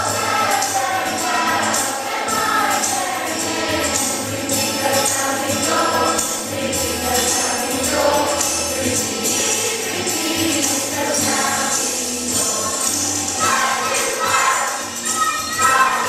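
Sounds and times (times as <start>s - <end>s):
choir singing: 0.0s - 16.0s
instrumental accompaniment: 0.0s - 16.0s
jingling percussion: 0.0s - 16.0s.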